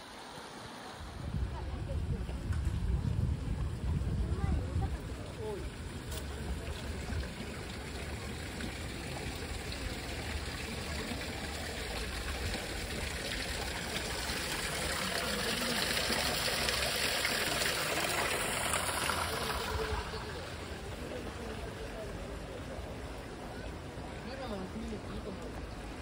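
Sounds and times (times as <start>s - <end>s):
water trickling over stones: 2.3s - 26.0s.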